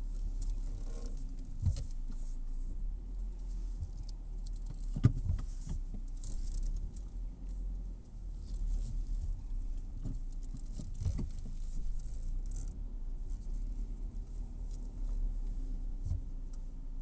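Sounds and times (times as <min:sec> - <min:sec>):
low rumble inside car: 0:00.0 - 0:17.0.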